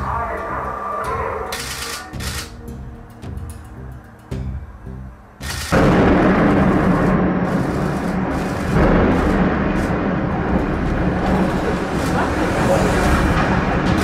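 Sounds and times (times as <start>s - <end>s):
demolition rumble: 1.6s - 14.0s.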